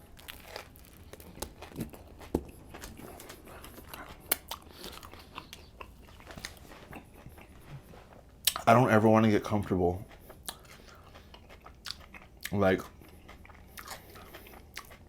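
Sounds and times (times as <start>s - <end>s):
person chewing sandwich: 0.0s - 8.7s, 9.4s - 15.0s.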